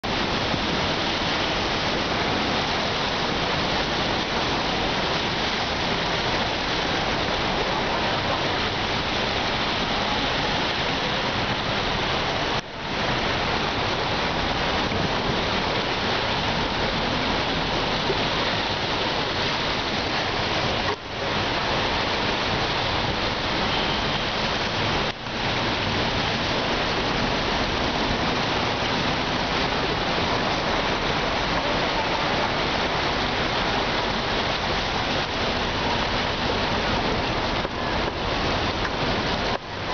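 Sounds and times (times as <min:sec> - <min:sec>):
floodwater rushing and splashing: 0:00.0 - 0:39.9.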